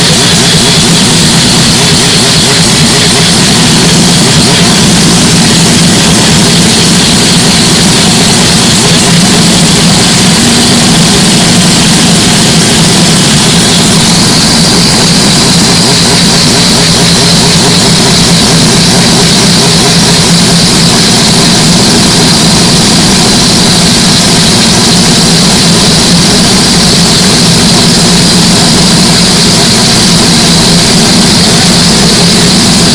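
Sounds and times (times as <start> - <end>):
rotary engine running steadily: 0.0 - 32.9.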